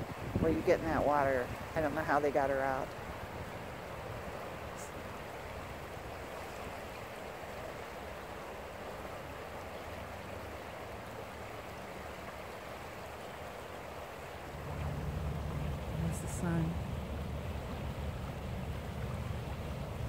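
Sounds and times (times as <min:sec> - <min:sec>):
fast river rushing: 0:00.0 - 0:20.0.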